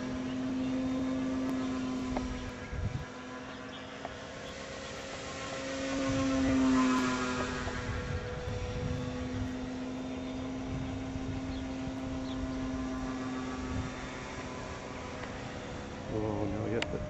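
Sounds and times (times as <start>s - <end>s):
model plane propeller droning: 0.0s - 17.0s.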